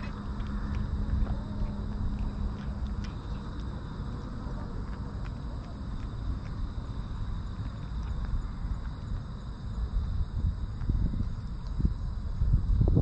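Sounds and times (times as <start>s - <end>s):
low rumble: 0.0s - 13.0s
kitten chewing wet food: 0.1s - 11.9s.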